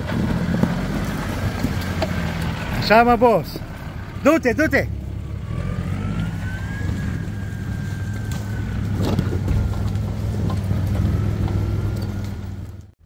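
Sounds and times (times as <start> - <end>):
off-road vehicle engine rumble: 0.0 - 13.0.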